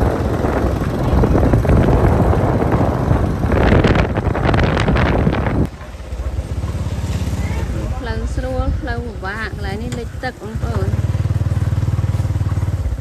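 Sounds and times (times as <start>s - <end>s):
motorbike engine running: 0.0s - 13.0s
wind buffeting microphone: 0.0s - 13.0s.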